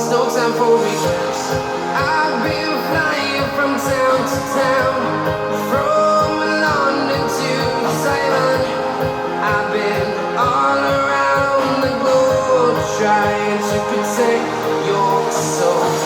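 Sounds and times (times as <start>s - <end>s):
pop song over loudspeakers: 0.0s - 16.0s.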